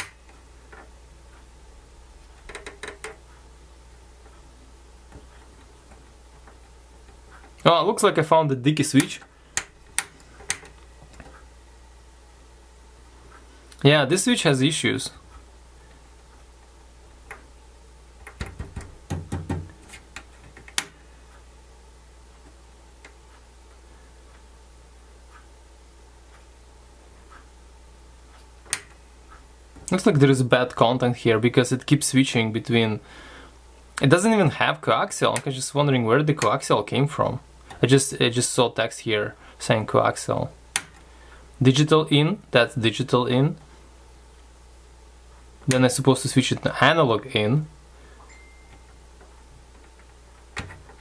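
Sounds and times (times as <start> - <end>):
faint low hum: 0.0 - 51.0.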